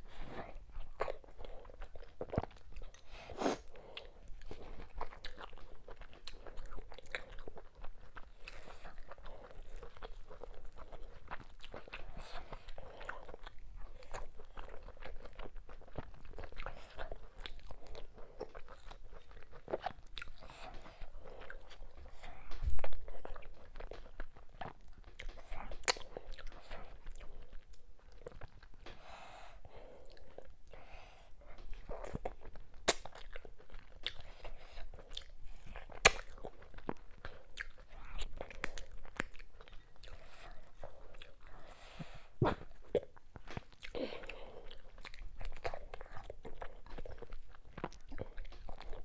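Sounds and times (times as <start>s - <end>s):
wet chewing and lip-smacking: 0.0s - 49.0s.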